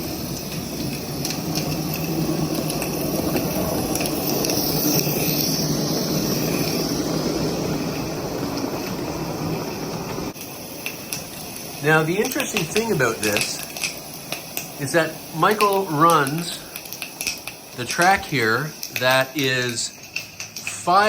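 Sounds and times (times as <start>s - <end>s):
steam hissing and bubbling: 0.0s - 21.0s.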